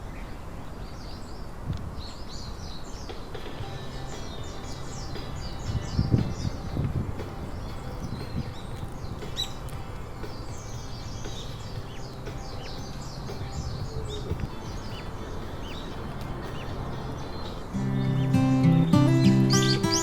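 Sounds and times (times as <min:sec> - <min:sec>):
low background noise: 0:00.0 - 0:20.0
small birds chirping: 0:00.0 - 0:20.0.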